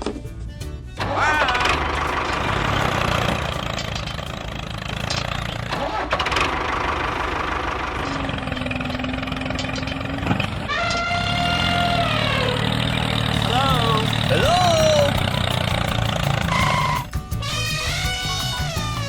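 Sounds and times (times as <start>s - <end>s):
small tractor engine running: 0.9s - 19.0s.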